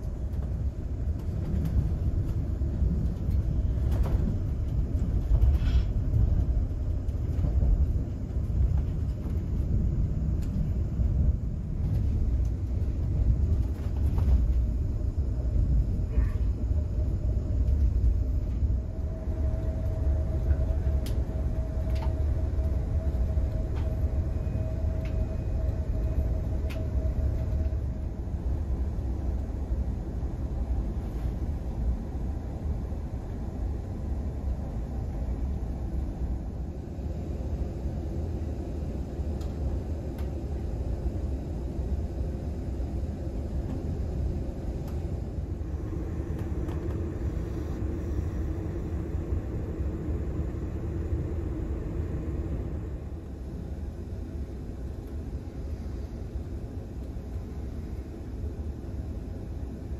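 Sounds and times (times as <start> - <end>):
faint steady whine: 0.0 - 59.9
train coach rumble: 0.0 - 59.9.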